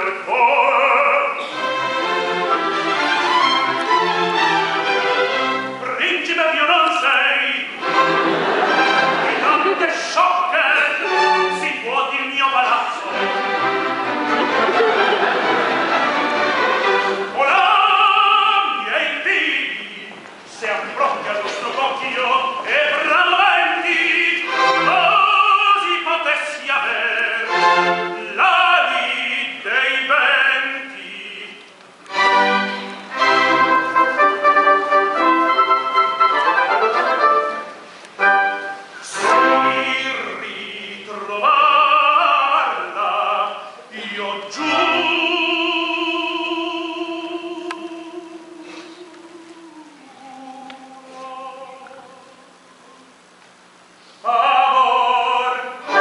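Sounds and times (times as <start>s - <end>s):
male opera voices singing: 0.0s - 4.9s, 5.8s - 14.1s, 15.0s - 32.3s, 39.0s - 53.1s, 54.2s - 56.0s
orchestra accompanying: 0.0s - 51.7s, 54.3s - 56.0s.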